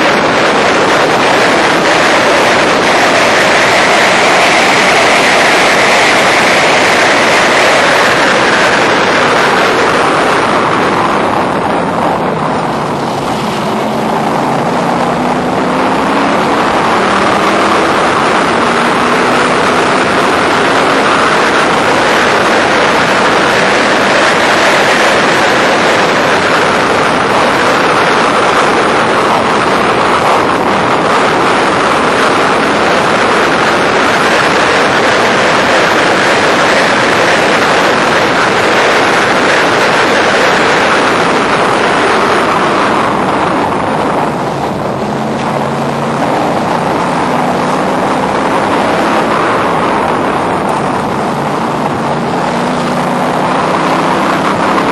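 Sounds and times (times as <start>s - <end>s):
car engine running hard: 0.0s - 54.9s
wind rush: 0.0s - 54.9s.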